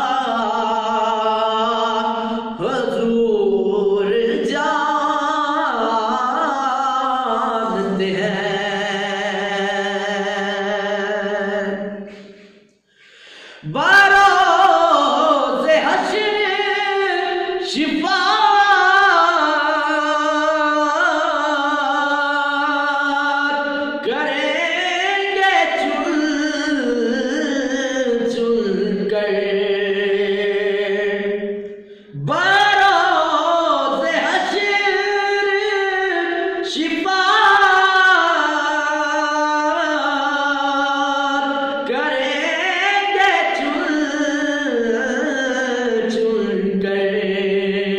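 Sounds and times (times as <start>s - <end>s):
man singing unaccompanied: 0.0s - 12.4s, 13.6s - 47.9s.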